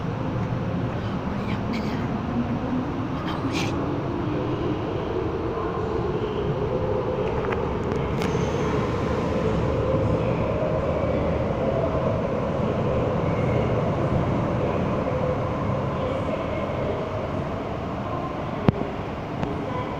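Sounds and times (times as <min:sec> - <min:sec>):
metro train rumbling: 0:00.0 - 0:19.9.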